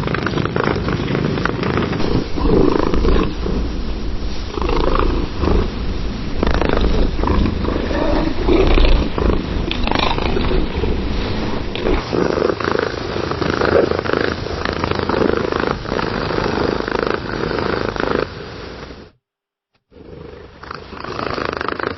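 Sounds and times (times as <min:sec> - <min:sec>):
cat purring: 0:00.0 - 0:18.5, 0:20.0 - 0:21.9.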